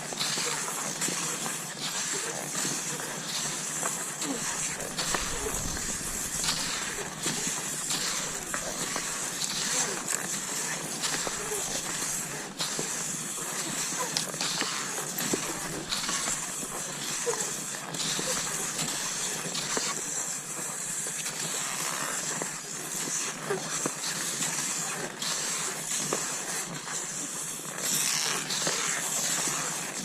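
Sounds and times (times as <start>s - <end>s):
skis sliding over snow: 0.0s - 30.0s.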